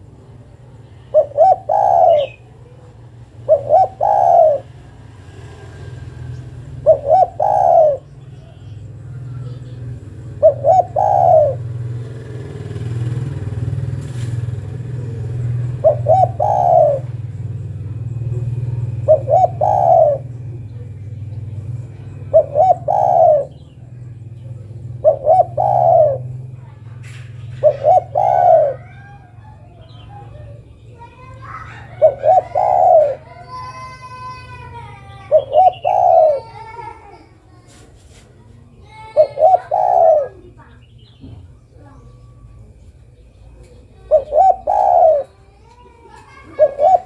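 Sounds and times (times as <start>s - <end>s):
dove cooing: 0.0s - 5.1s, 6.5s - 37.7s, 38.6s - 47.0s.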